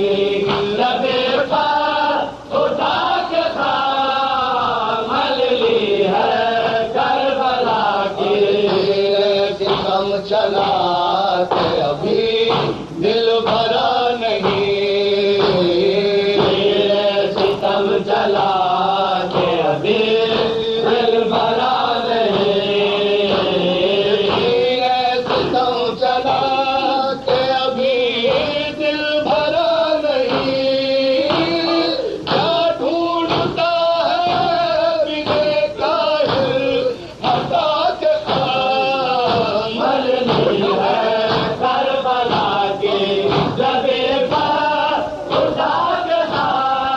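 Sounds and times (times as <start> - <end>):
men chanting a lament: 0.0 - 46.9.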